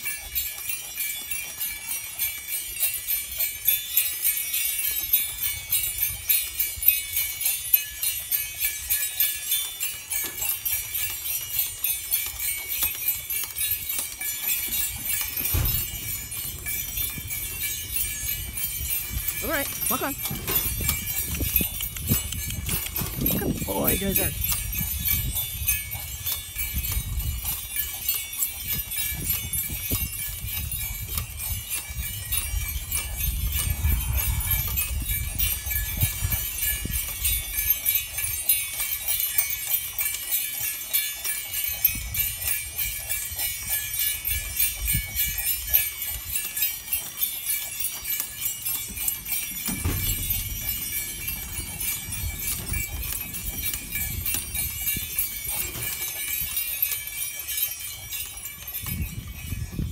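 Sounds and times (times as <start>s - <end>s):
harness bells jingling: 0.0s - 59.9s
cart rolling on pavement: 9.0s - 41.9s, 42.7s - 59.9s.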